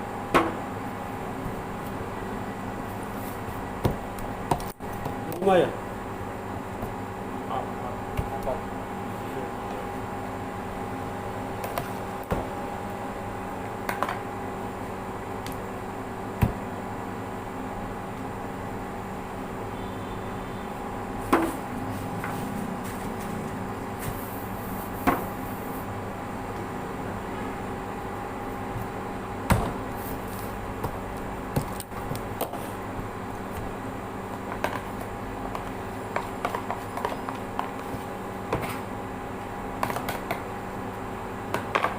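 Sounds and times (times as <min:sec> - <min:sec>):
background hum with tones: 0:00.0 - 0:41.9.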